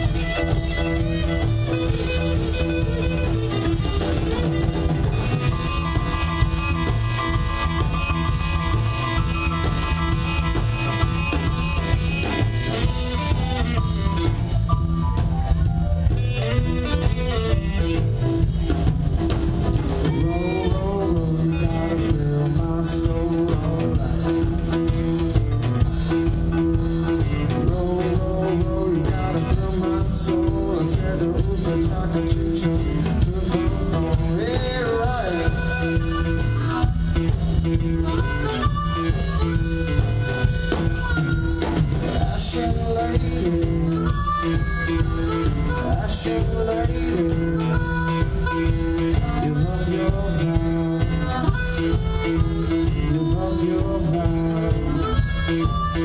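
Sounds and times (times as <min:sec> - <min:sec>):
electric guitar bending notes: 0:00.0 - 0:56.0
live rock band: 0:00.0 - 0:56.0.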